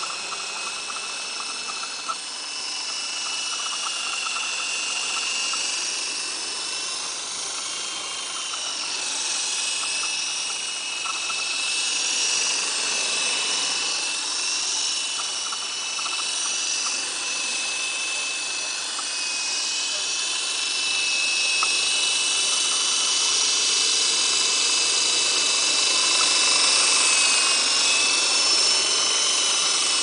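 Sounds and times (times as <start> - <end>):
helicopter rotors whirring: 0.0 - 30.0
rc helicopter motor whine: 0.0 - 30.0.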